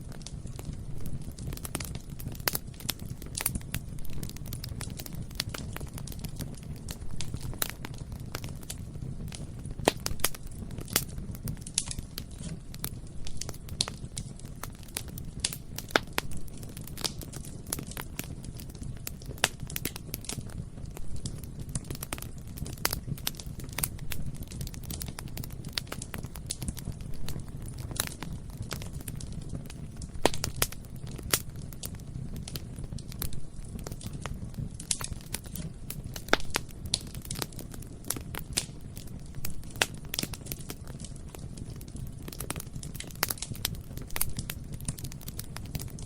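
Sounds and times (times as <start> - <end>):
bonfire flames rumbling: 0.0 - 46.0
burning wood crackling and popping: 0.0 - 46.0.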